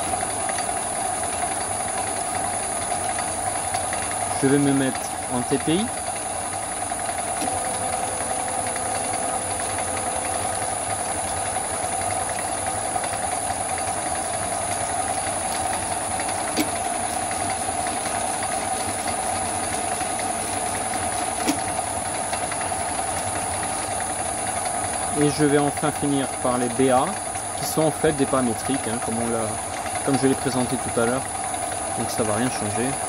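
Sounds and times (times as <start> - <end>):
metal lathe humming: 0.0 - 33.0.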